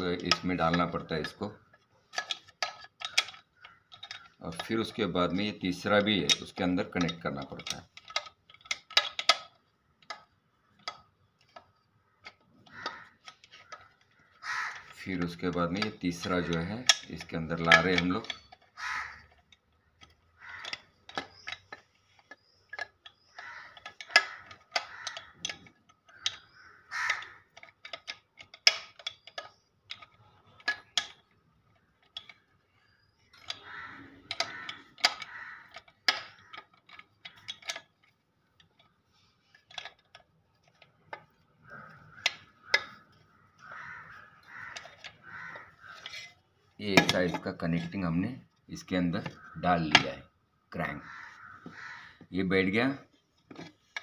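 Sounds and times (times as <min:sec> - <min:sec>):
metal clicks and knocks: 0:00.0 - 0:54.0.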